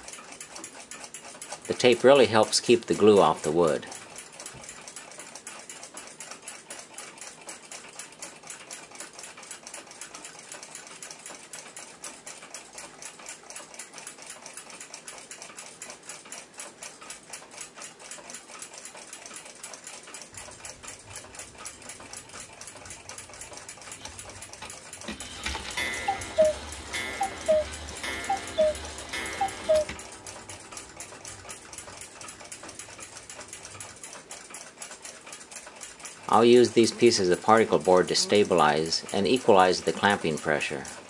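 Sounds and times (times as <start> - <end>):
mechanical clock ticking: 0.0 - 41.0.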